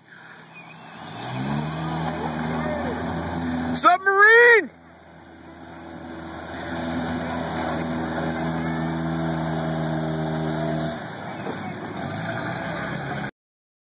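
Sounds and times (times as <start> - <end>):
engine pulling under load: 0.0 - 13.3
water splashing around wheels: 0.0 - 13.3.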